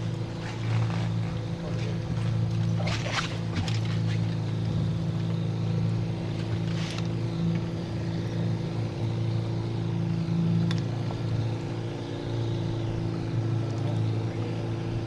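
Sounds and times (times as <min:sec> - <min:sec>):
boat motor droning: 0:00.0 - 0:15.0.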